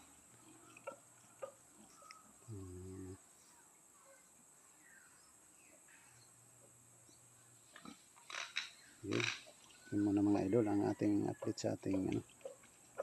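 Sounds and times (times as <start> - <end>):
faint high chirps: 0.0 - 13.0.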